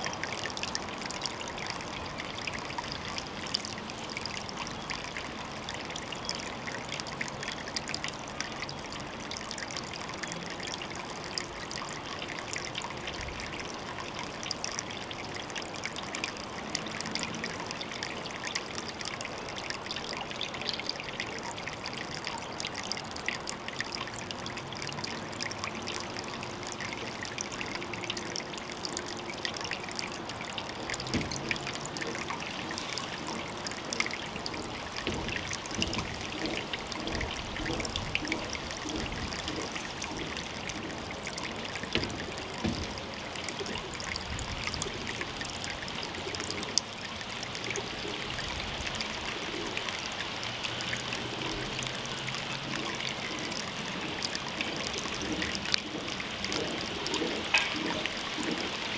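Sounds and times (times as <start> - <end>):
water trickling into pond: 0.0 - 58.9.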